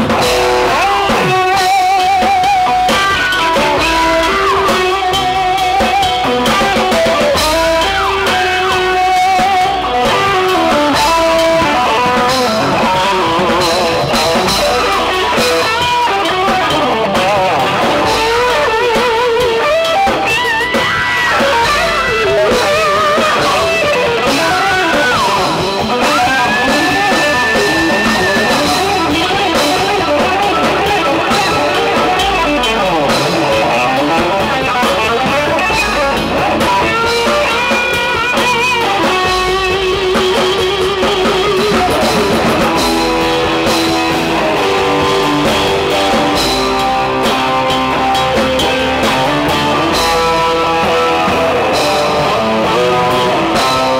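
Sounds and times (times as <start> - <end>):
drums and cymbals: 0.0 - 53.9
electric guitar lead with vibrato: 0.0 - 53.9.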